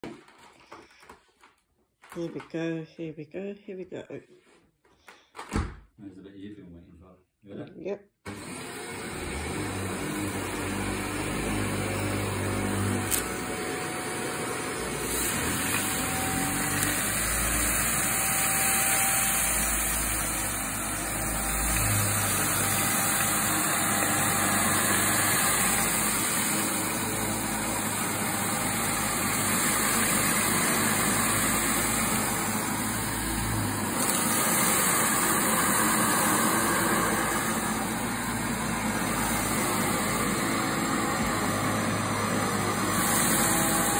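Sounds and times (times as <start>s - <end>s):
vacuum cleaner on carpet: 8.3s - 43.9s.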